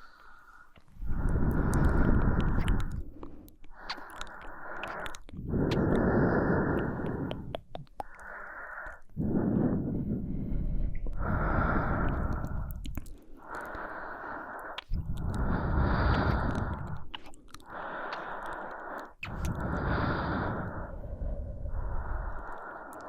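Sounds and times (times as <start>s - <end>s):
faint mouth clicks: 0.0s - 10.0s, 10.8s - 21.0s, 21.7s - 23.0s
woman breathing close to microphone: 0.0s - 23.0s.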